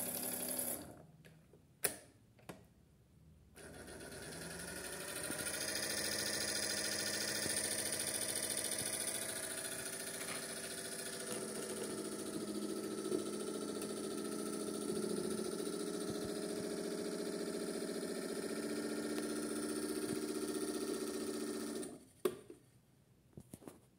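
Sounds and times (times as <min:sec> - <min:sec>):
toy washing machine motor humming: 0:00.0 - 0:01.0, 0:03.6 - 0:22.0.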